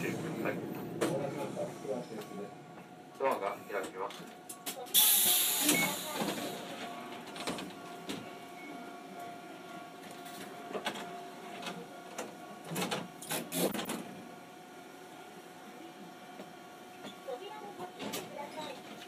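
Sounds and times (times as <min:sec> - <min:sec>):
faint tram whine: 0:00.0 - 0:19.0.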